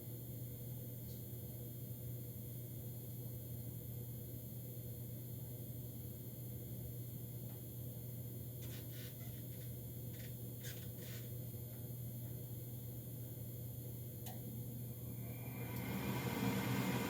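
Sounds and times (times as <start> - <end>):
furnace fan motor humming: 0.0 - 17.0.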